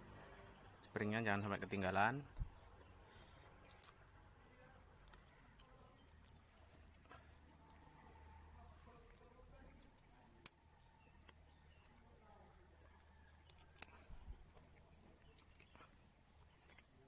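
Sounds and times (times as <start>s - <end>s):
faint insect trill: 0.0s - 17.0s.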